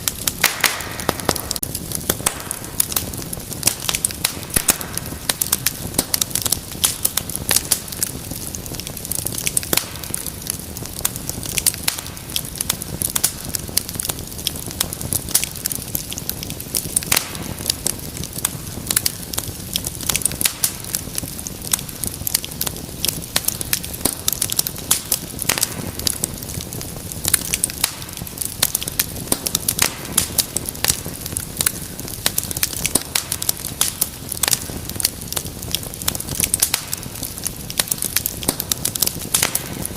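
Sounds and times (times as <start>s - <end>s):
low rumble of flame: 0.0s - 39.9s
wood fire crackling: 0.0s - 39.9s.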